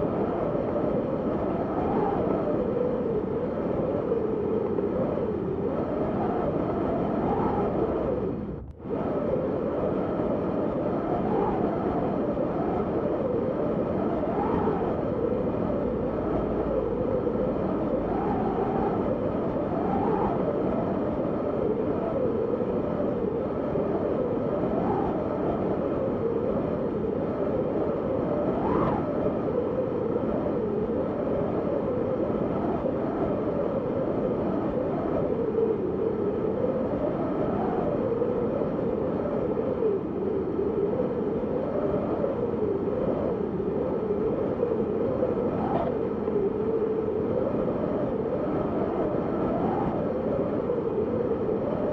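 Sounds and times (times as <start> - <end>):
wind whistling: 0.0 - 51.9.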